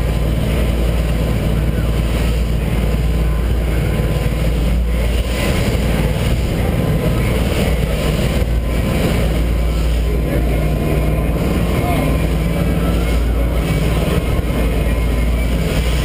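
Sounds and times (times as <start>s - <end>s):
boat engines running: 0.0s - 16.0s
churning wake water: 0.0s - 16.0s.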